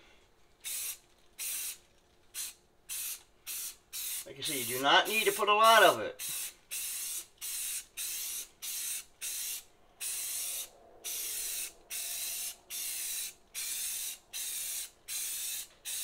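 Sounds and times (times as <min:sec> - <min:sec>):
aerosol can spraying bursts: 0:00.6 - 0:01.8, 0:02.4 - 0:05.5, 0:06.2 - 0:16.0.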